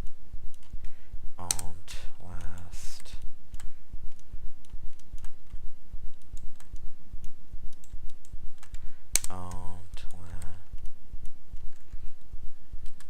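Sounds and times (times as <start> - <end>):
keyboard and mouse clicking: 0.0 - 2.7, 3.5 - 12.0, 12.8 - 13.0
low pulsing rumble: 0.0 - 13.0.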